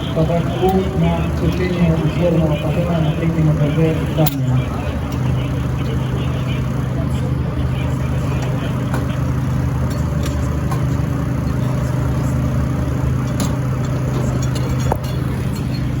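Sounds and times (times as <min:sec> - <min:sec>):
fire engine running: 0:00.0 - 0:16.0.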